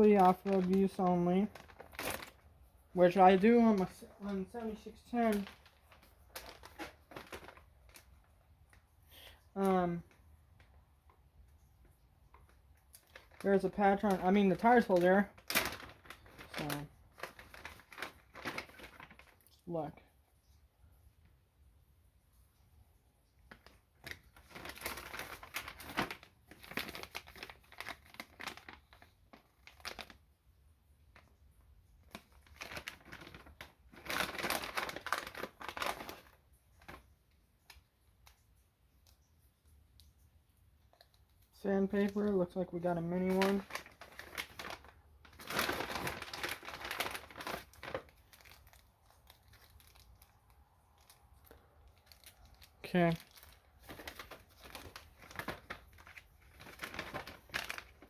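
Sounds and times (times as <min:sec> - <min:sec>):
plastic packaging crinkling: 0:00.0 - 0:19.6, 0:23.3 - 0:58.0.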